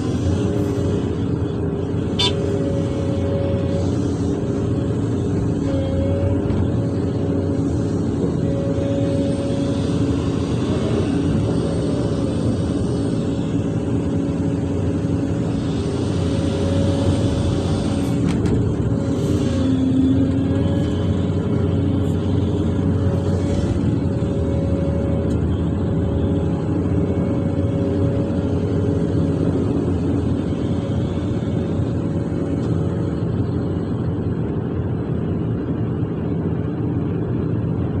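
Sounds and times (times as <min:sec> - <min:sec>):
hydraulic whine: 0:00.0 - 0:34.8
excavator diesel engine running: 0:00.0 - 0:38.0.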